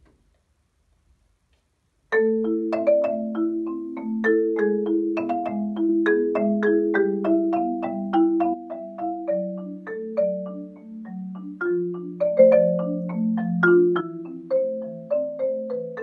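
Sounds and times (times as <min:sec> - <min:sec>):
marimba duet: 0:02.1 - 0:16.0.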